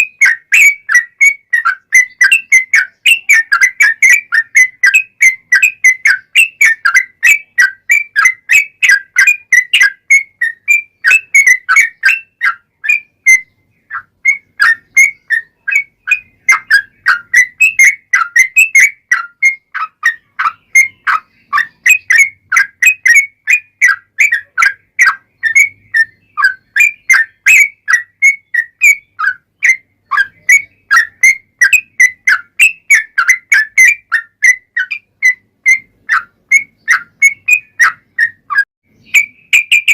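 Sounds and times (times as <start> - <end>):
bulbul singing bubbling whistles: 0.0 - 39.9.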